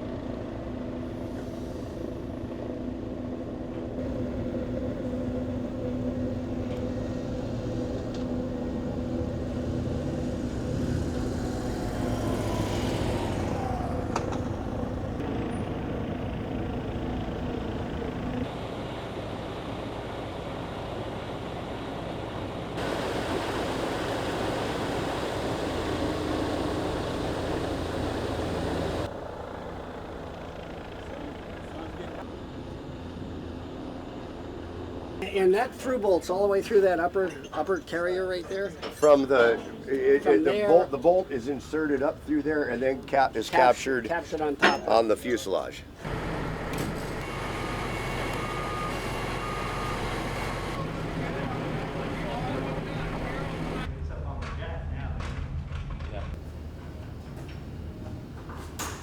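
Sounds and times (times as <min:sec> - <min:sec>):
engine running with low hum: 0:00.0 - 0:35.2, 0:45.8 - 0:54.4, 0:55.2 - 0:59.0.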